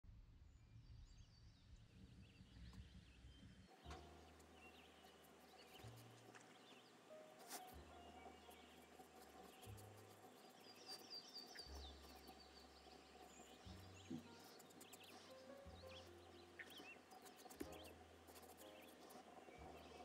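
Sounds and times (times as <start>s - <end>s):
faint high chirps and ticks: 1.4s - 20.0s.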